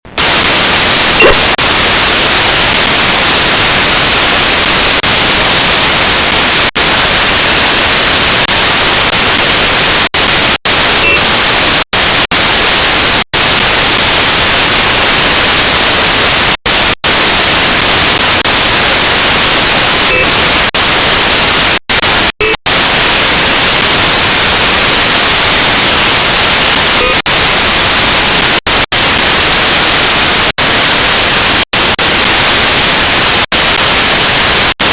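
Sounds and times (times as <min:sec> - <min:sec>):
static hiss: 0:00.0 - 0:34.9.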